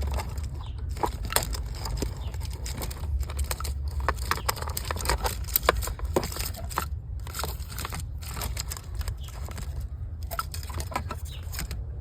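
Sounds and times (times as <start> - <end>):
clicks of hands handling parts: 0.0 - 11.8
low steady rumble: 0.0 - 12.0.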